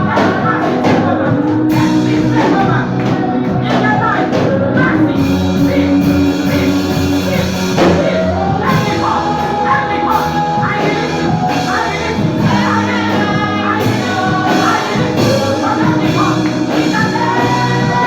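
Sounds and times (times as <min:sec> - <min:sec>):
church worship music: 0:00.0 - 0:18.0.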